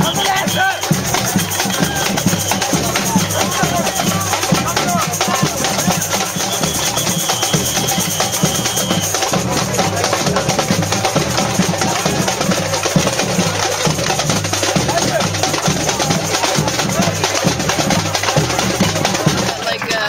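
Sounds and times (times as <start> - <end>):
bass drums struck with mallets: 0.0 - 19.5
quick high drum strokes: 0.0 - 20.0.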